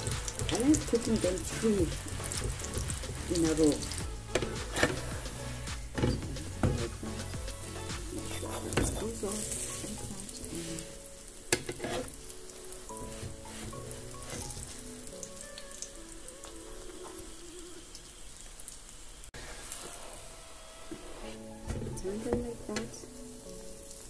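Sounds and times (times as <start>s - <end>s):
flatbread sizzling in oil: 0.0s - 22.2s.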